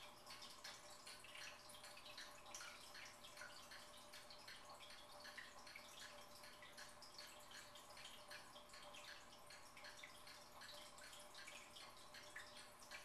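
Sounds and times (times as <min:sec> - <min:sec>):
faint steady hum: 0:00.0 - 0:13.0
fish tank water trickling: 0:00.0 - 0:13.0.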